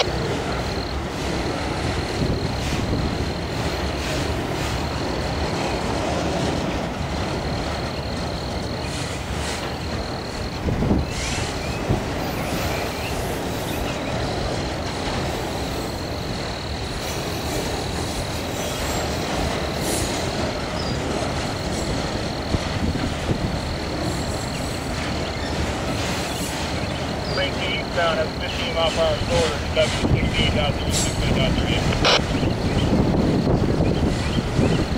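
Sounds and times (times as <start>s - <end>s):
freight cars rumbling on rails: 0.0s - 34.9s.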